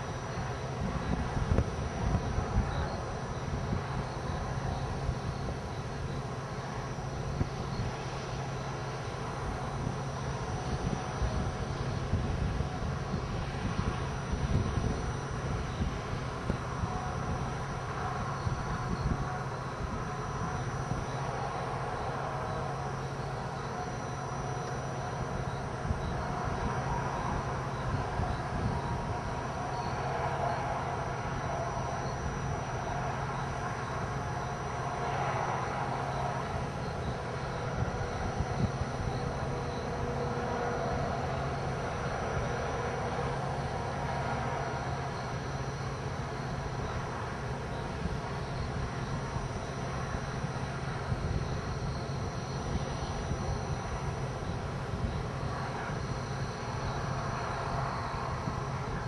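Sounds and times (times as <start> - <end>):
tyre and wind hiss: 0.0 - 23.8, 32.7 - 59.0
low engine hum: 0.0 - 59.0.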